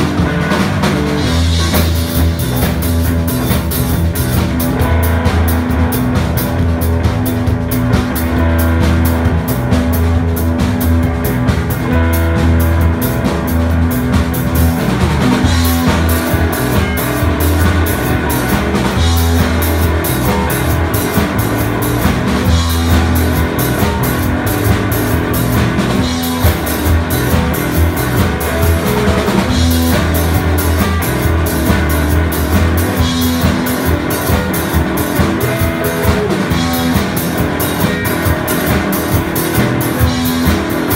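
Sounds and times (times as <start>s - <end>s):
bass guitar: 0.0s - 40.9s
drum kit beat: 0.0s - 40.9s
electric guitars: 0.0s - 40.9s.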